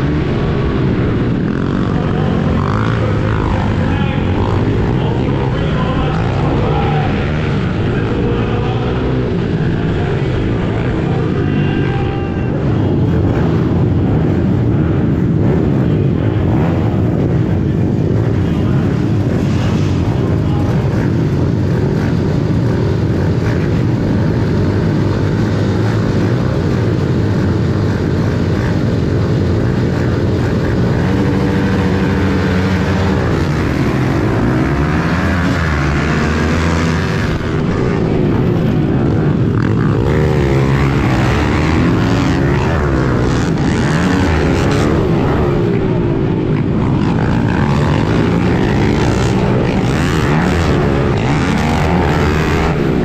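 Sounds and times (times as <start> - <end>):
pit bike engines revving: 0.0 - 53.0.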